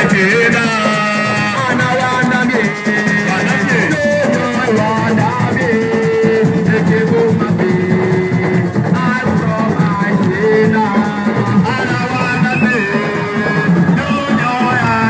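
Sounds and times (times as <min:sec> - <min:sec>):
rattles shaken: 0:00.0 - 0:15.0.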